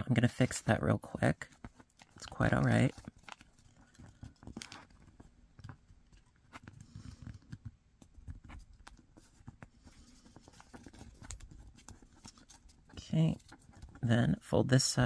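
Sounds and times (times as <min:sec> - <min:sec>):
paper crinkling: 0:00.3 - 0:14.1
paper creases clicking: 0:01.4 - 0:14.1.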